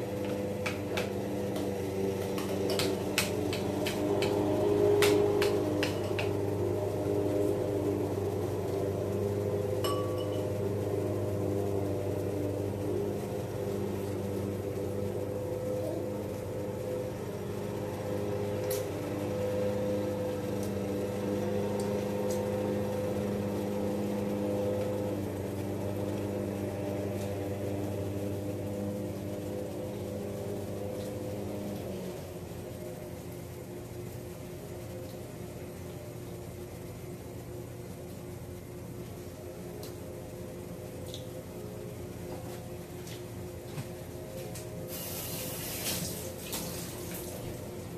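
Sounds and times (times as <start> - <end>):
kitchen appliance humming: 0.0 - 47.9.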